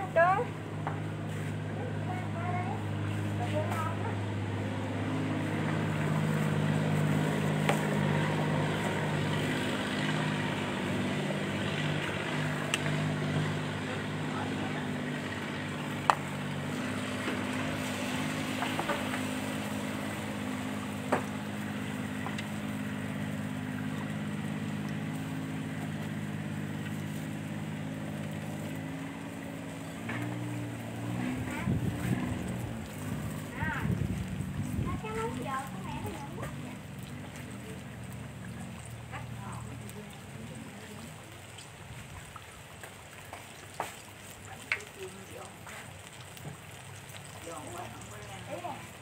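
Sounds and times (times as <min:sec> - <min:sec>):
hot oil sizzling: 0:00.0 - 0:49.0.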